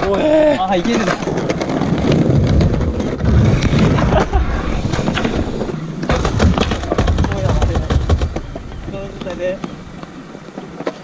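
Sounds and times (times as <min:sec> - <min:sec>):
skateboard clicks and knocks: 0:00.0 - 0:11.0
skateboard rolling on concrete: 0:00.0 - 0:11.0
wind on microphone: 0:01.2 - 0:10.6.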